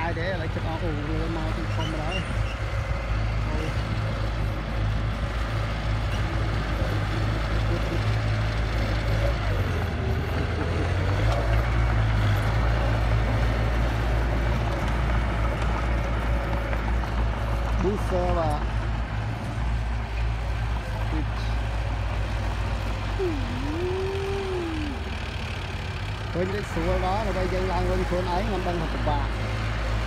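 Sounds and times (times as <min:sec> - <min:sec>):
bulldozer diesel engine under load: 0:00.0 - 0:30.0.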